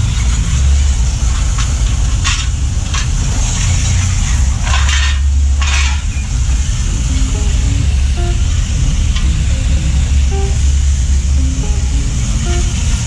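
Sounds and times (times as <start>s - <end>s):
pressure washer motor rumble: 0.0s - 13.0s.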